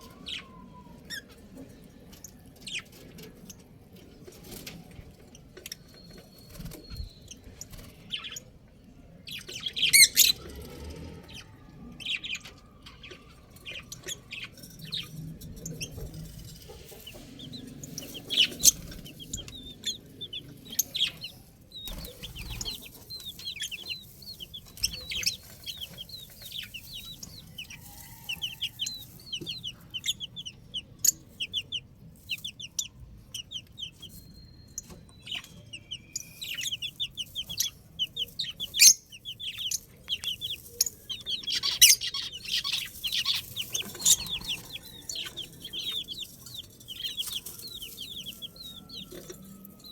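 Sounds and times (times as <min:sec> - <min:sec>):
baby chicks peeping: 0:00.0 - 0:49.9.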